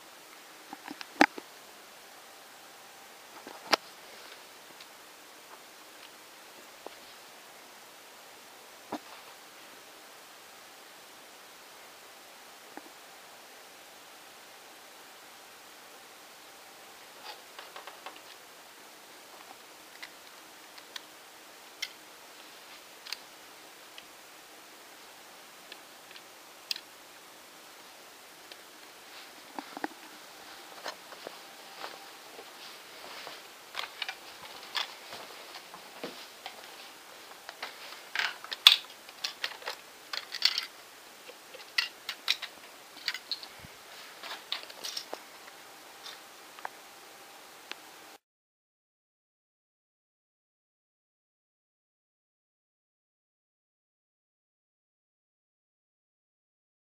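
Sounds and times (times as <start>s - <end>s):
steady hiss: 0.0s - 48.2s.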